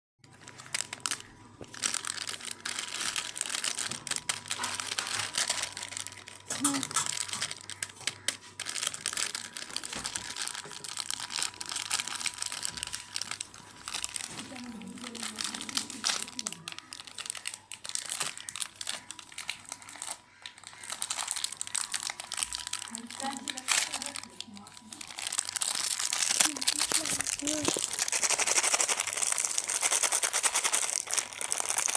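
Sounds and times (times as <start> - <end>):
soap crackling and crunching: 0.2 - 31.9.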